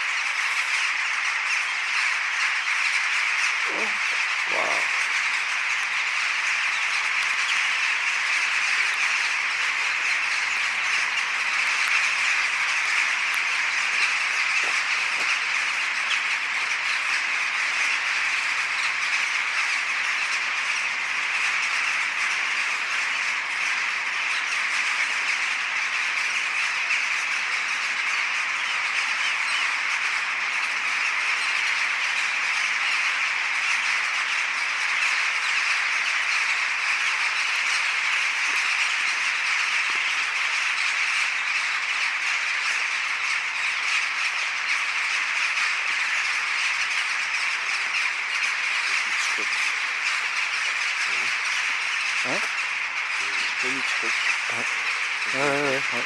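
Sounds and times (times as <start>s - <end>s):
flock of birds squawking: 0.0s - 56.0s.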